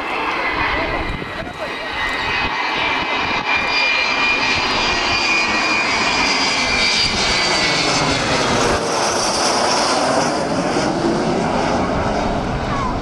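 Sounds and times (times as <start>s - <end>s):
high whining jet tones: 0.0s - 13.0s
jet aircraft roar passing overhead: 0.0s - 13.0s.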